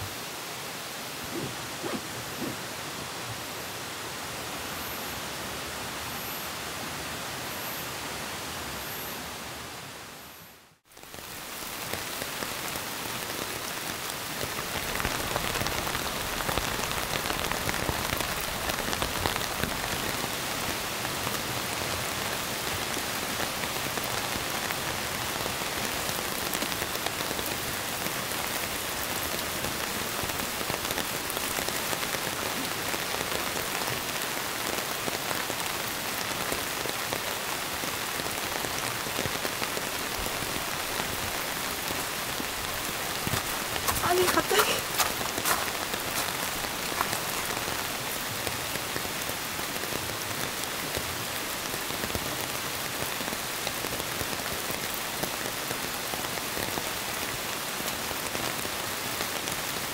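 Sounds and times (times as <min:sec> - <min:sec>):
rain on tent fabric: 0:00.0 - 0:08.7, 0:09.5 - 0:59.9.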